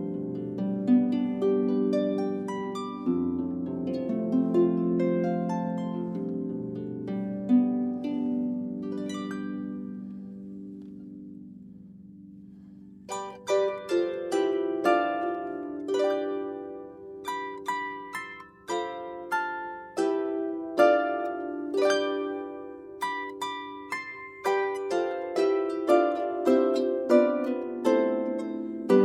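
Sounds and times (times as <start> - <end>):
harp playing slow melody: 0.0 - 29.0.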